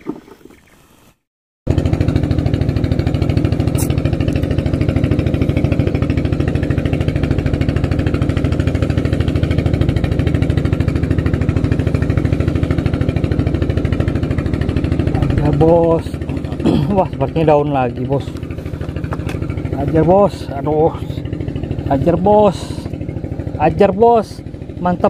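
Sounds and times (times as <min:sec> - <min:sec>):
motor boat engine puttering: 0:01.7 - 0:25.0.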